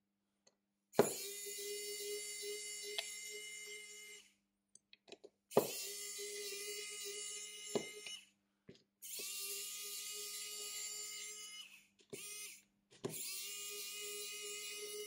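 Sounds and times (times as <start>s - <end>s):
small electric motor whining: 1.0s - 4.4s, 5.5s - 8.3s, 9.0s - 15.0s.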